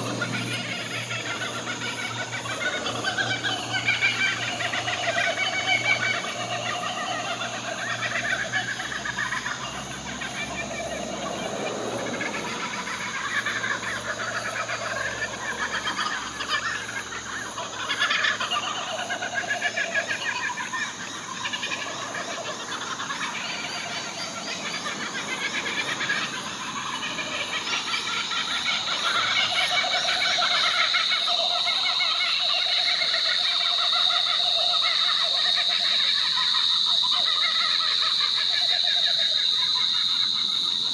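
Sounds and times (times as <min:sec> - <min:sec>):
kookaburras cackling: 0:00.0 - 0:40.9.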